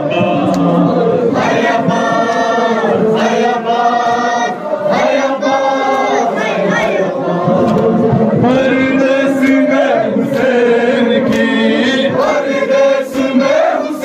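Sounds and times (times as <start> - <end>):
men chanting in chorus: 0.0 - 14.0.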